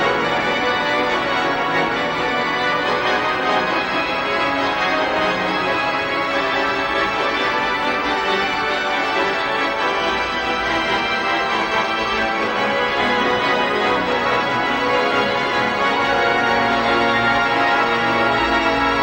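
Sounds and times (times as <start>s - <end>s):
organ playing held chords: 0.0s - 19.0s.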